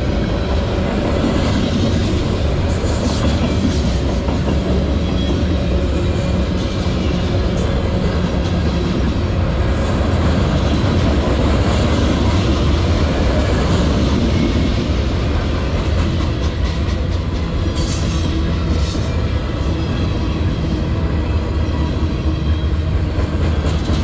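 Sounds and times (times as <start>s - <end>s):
steel wheels on rails: 0.0s - 24.0s.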